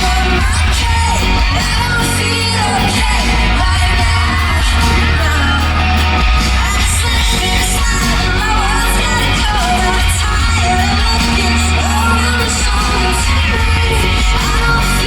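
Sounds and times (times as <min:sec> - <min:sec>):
live pop-rock band playing: 0:00.0 - 0:15.0
woman singing: 0:00.0 - 0:15.0.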